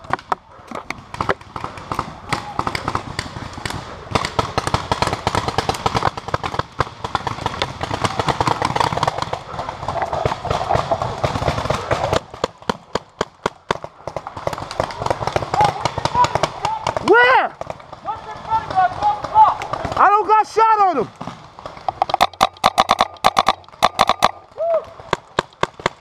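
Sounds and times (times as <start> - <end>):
paintball markers firing: 0.0 - 20.3, 21.2 - 26.0.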